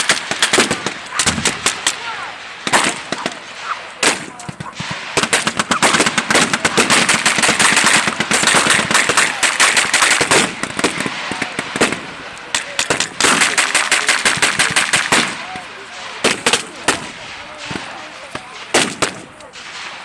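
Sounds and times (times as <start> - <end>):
machine gun bursts: 0.0 - 20.0
rifle shots: 0.0 - 20.0.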